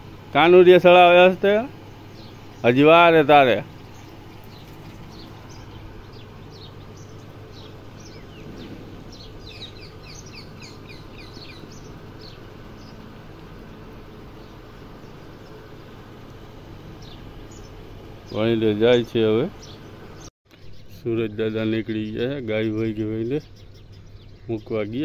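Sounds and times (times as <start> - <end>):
birds chirping: 0.0 - 25.0
steady background noise: 0.0 - 25.0.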